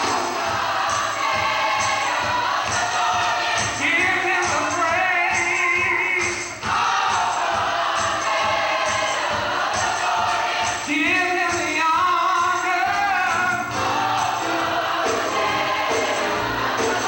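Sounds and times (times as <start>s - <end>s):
gospel choir singing: 0.0s - 17.0s
instrumental accompaniment: 0.0s - 17.0s
percussion steady beat: 0.0s - 17.0s.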